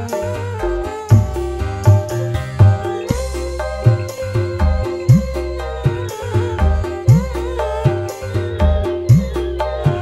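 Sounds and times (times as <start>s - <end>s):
deep drum beats: 0.0s - 10.0s
keyboard melody: 0.0s - 10.0s.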